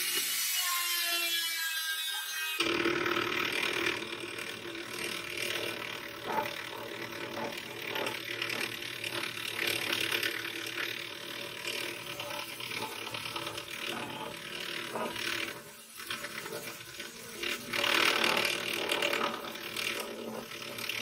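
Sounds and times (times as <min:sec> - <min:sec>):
hand saw rasping through wood: 0:02.6 - 0:21.0.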